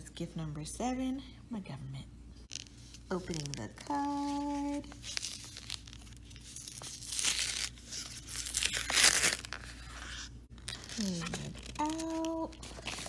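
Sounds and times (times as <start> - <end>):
paper envelope tearing: 2.5 - 13.0.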